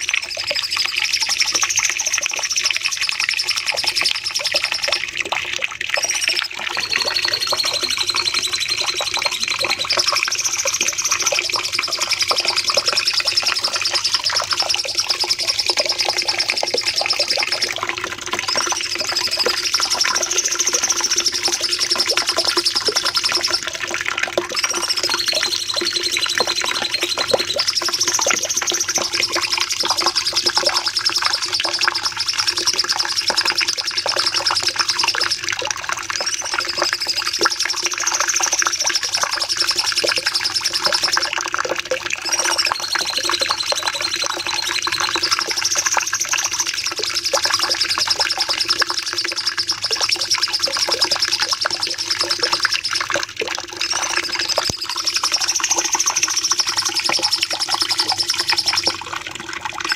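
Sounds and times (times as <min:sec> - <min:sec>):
bird singing rapid chattering notes: 0:06.0 - 0:41.6, 0:42.2 - 0:53.2, 0:53.8 - 0:59.1.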